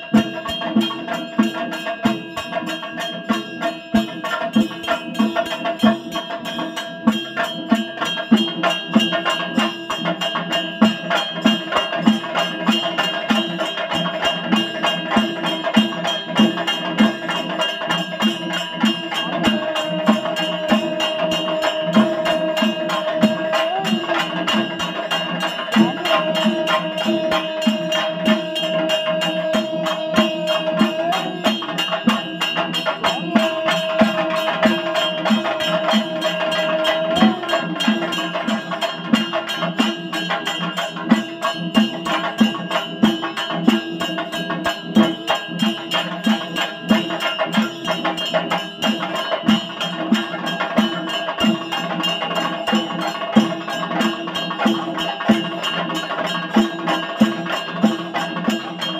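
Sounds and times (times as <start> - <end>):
fast high percussion: 0.0 - 58.9
steady drum beat: 0.0 - 58.9.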